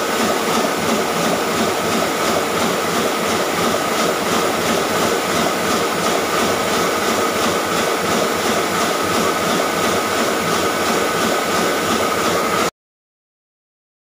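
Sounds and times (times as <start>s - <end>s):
printing press running: 0.0s - 12.7s.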